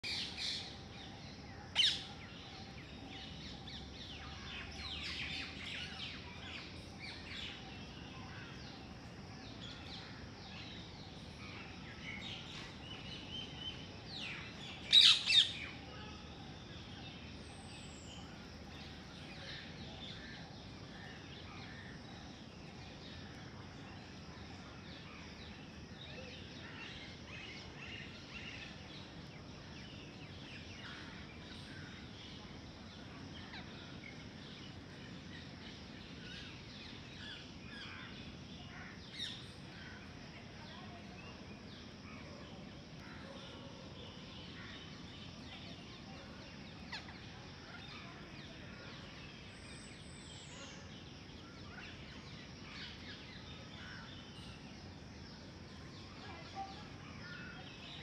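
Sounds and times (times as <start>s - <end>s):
faint bird chirps: 0.0s - 58.0s
outdoor background noise: 0.0s - 58.0s.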